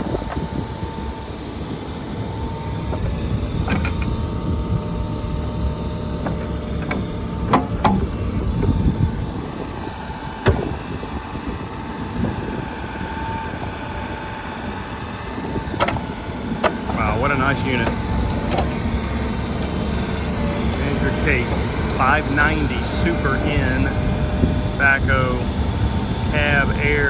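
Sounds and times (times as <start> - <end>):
backhoe engine running: 0.0 - 27.0
hydraulic whine: 0.0 - 27.0.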